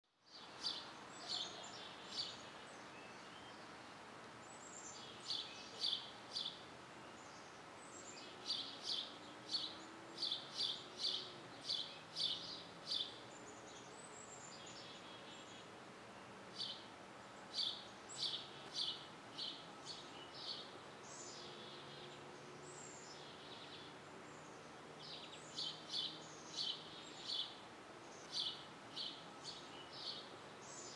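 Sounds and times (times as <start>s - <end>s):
outdoor background hiss: 0.0s - 30.9s
birds chirping: 0.3s - 30.9s.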